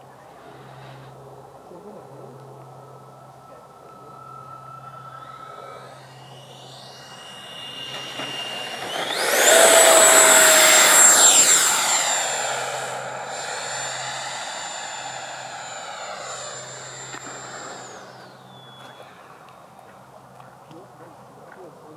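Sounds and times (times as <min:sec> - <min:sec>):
model jet ducted fan whining: 0:00.0 - 0:21.9.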